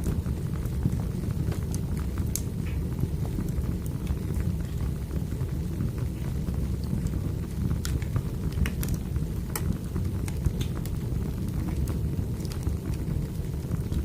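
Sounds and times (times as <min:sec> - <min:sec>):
fire flames rumbling: 0:00.0 - 0:14.0
firewood popping and crackling: 0:00.0 - 0:14.0.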